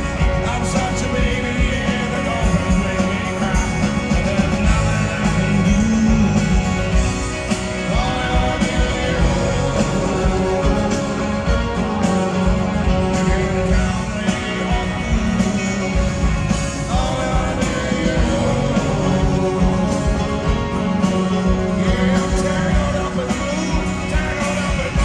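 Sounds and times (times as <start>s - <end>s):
drums: 0.0s - 25.0s
electric and acoustic guitars: 0.0s - 25.0s
keyboards: 0.0s - 25.0s
lead vocal singing: 0.0s - 25.0s.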